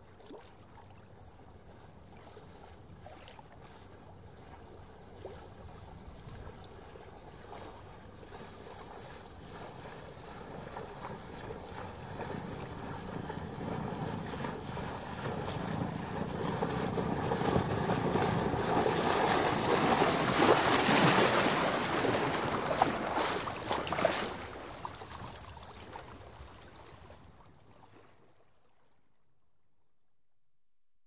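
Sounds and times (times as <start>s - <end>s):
wind: 0.0s - 29.6s
water washing along hull: 0.2s - 28.5s.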